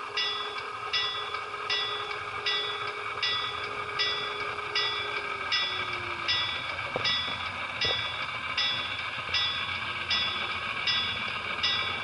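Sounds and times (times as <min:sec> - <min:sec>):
model train running hum: 0:00.0 - 0:12.0
held tone dropping in pitch: 0:00.2 - 0:12.0.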